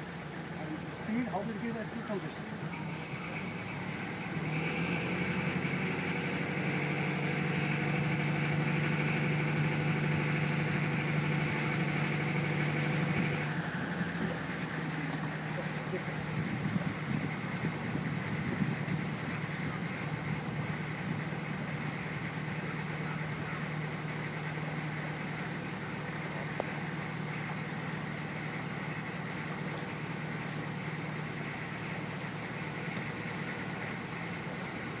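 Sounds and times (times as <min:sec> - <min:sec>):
boat engine humming: 0:00.0 - 0:35.0
high engine whine: 0:00.0 - 0:35.0.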